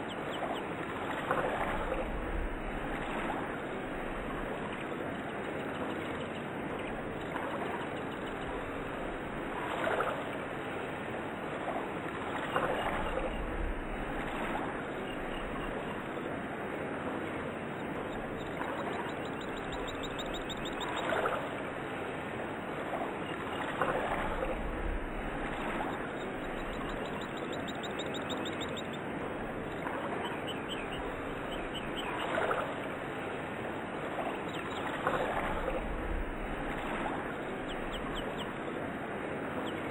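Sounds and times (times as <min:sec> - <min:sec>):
faint chirps: 0:00.0 - 0:39.9
flowing water rushing: 0:00.0 - 0:39.9.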